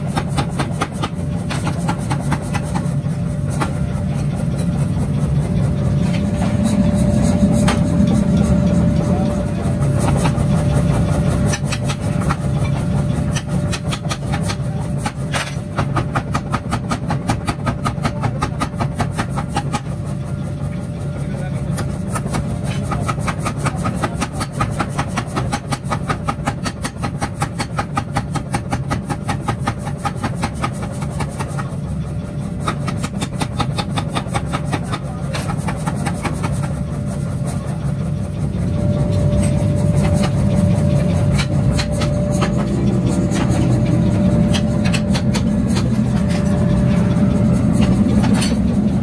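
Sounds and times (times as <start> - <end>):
power hammer pounding steel: 0.0 - 20.2, 21.6 - 49.0
machine rumble with whine: 0.0 - 49.0.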